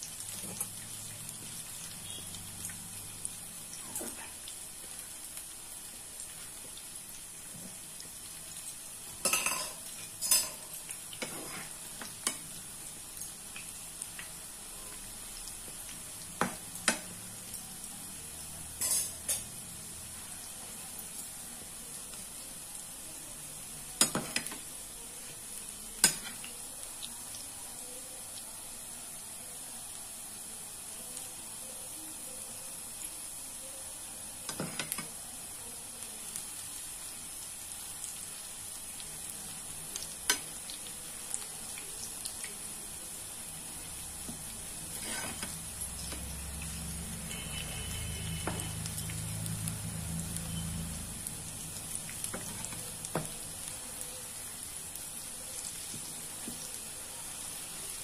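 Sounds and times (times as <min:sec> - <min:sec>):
fritters sizzling in hot oil: 0:00.0 - 0:58.0.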